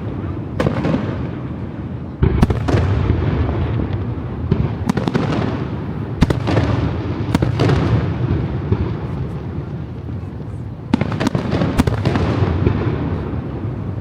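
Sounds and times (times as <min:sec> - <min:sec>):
sharp firework cracks: 0:00.0 - 0:01.6, 0:02.2 - 0:09.6, 0:10.9 - 0:14.0.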